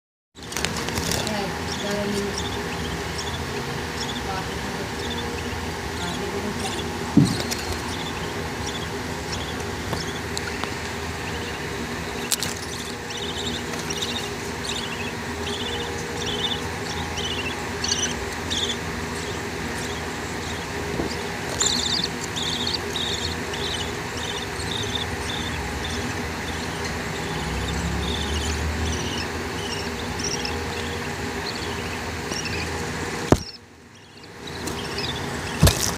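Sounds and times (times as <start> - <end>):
low background hum: 0.4 - 35.9.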